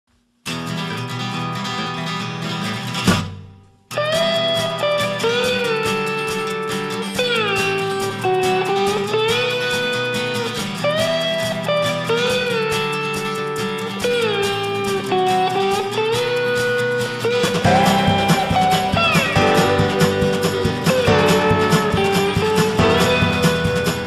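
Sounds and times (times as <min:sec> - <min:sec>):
strummed guitar rhythm: 0:00.4 - 0:24.0
guitar with sliding bending notes: 0:00.5 - 0:24.0.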